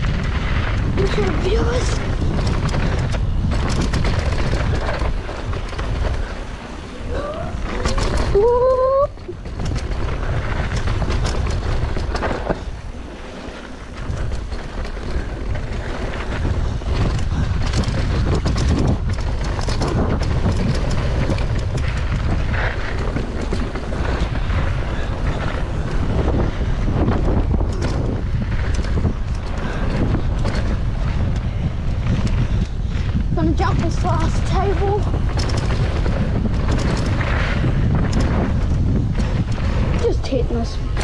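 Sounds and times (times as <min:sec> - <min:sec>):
bike clattering over bumps: 0:00.0 - 0:41.0
wind buffeting microphone: 0:00.0 - 0:41.0.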